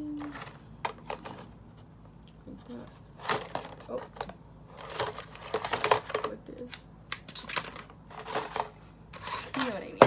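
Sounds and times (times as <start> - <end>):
plastic cases clicking and rattling: 0.2 - 1.5, 3.2 - 10.0.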